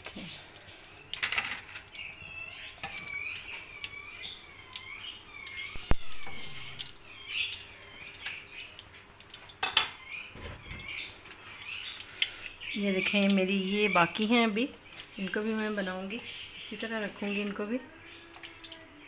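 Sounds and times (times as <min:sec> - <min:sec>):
birds chirping: 0:00.2 - 0:19.0.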